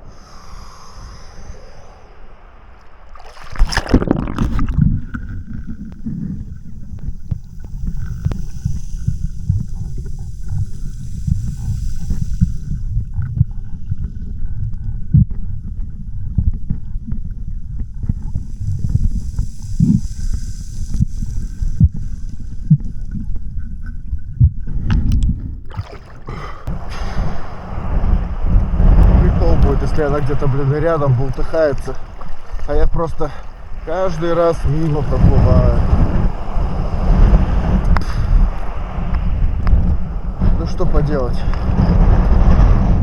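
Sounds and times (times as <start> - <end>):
wind and surf hiss: 0.0 - 24.0, 25.7 - 43.0
sea water sloshing: 0.0 - 42.6.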